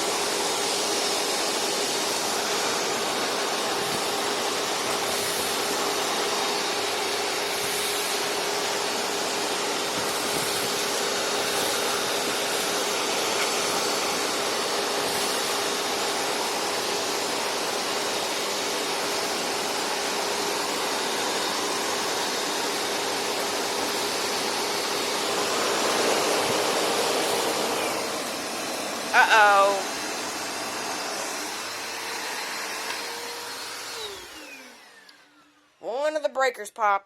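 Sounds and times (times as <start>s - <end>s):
vacuum cleaners running: 0.0s - 36.9s.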